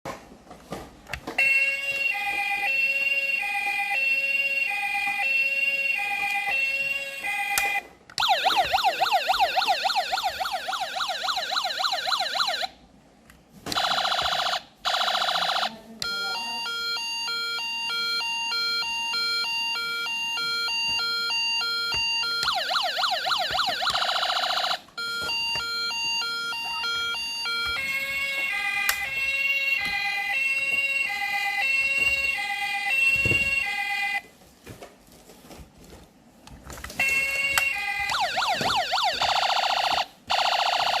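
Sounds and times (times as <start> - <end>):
electronic toy siren: 1.4 - 12.7, 13.7 - 34.2, 37.0 - 41.0.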